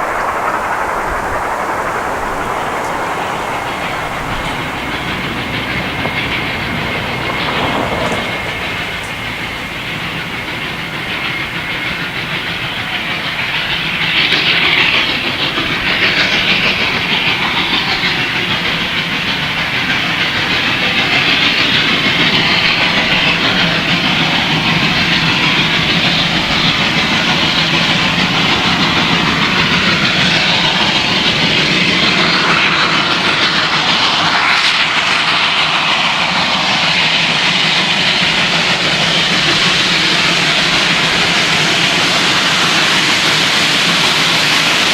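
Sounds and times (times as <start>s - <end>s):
steam train hissing: 0.0s - 44.9s
train wheels clattering over rail joints: 0.0s - 44.9s.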